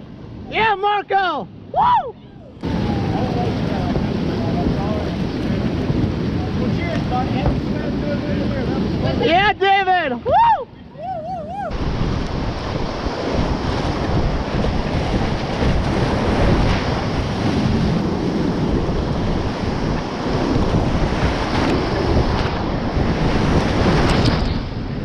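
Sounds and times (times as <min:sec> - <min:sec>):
water breaking over boat: 0:02.5 - 0:09.5, 0:11.6 - 0:25.0.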